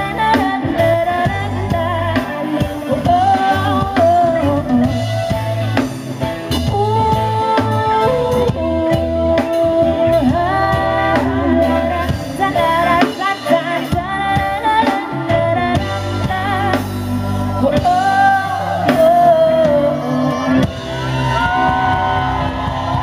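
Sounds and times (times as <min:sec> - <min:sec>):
live band playing pop song: 0:00.0 - 0:23.0
woman singing lead: 0:00.0 - 0:23.0.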